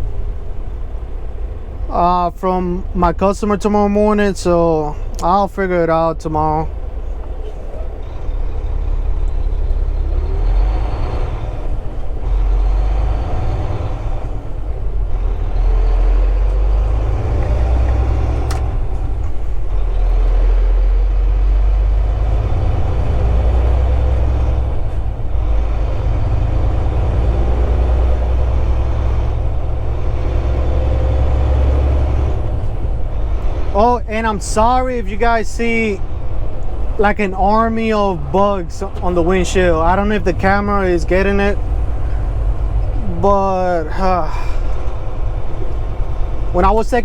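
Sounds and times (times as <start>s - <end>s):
road noise: 0.0s - 47.0s
truck diesel engine rumble: 0.0s - 47.0s.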